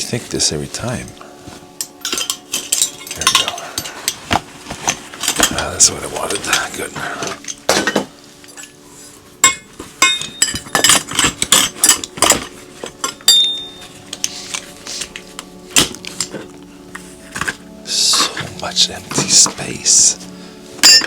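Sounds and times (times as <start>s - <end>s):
metal tools clinking: 0.7s - 21.0s.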